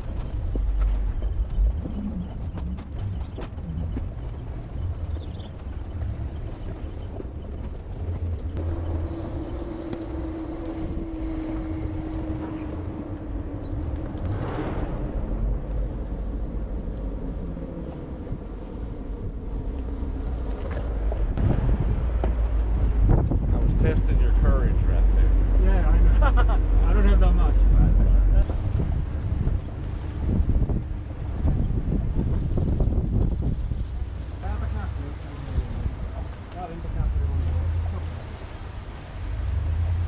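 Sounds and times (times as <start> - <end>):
engine and tyres rumbling: 0.0 - 40.0
wind on microphone: 0.0 - 40.0.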